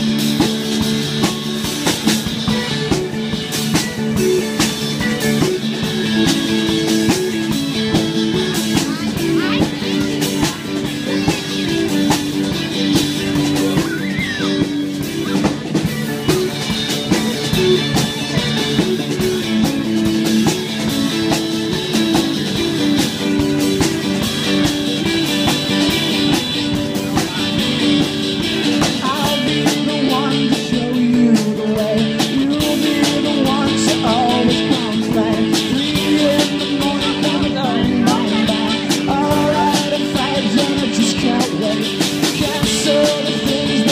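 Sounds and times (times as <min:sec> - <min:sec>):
rock music with singing: 0:00.0 - 0:43.9.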